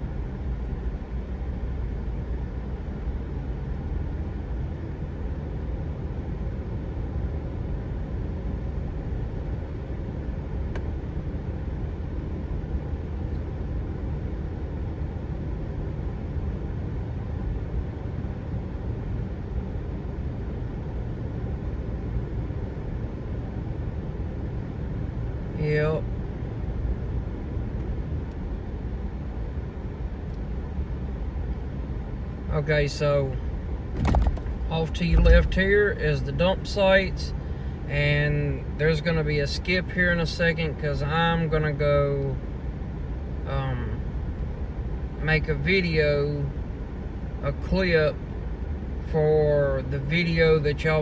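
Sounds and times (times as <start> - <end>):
vehicle driving slowly: 0.0 - 51.0.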